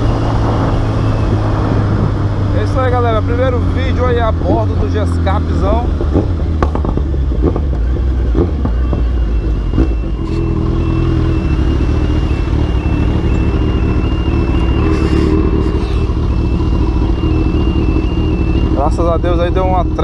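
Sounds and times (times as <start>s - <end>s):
motorcycle exhaust note: 0.0s - 20.0s.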